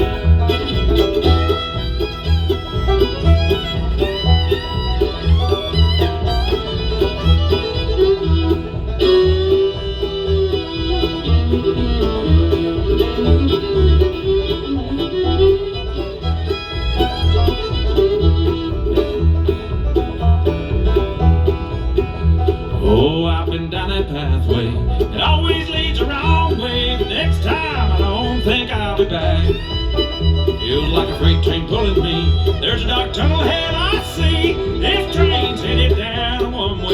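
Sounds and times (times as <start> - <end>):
banjo: 0.0 - 36.9
bluegrass band playing: 0.0 - 36.9
fiddle: 0.0 - 36.9.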